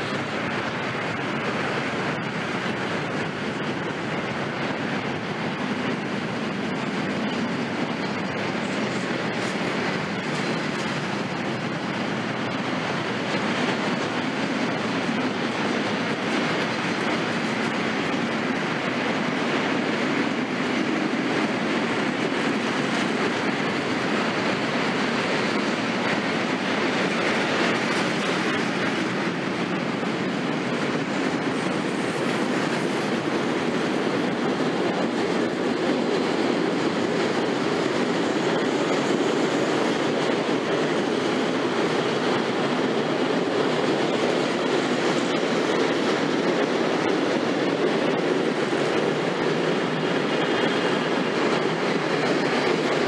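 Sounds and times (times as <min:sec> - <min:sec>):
train wheels rattling on rails: 0:00.0 - 0:53.0.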